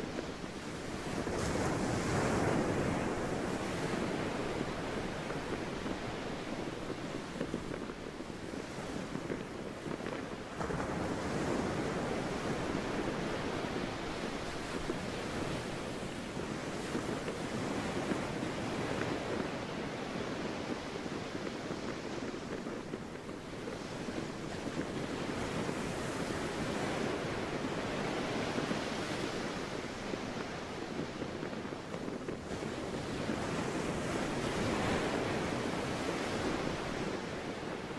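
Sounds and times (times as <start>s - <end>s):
sea waves washing: 0.0s - 37.9s.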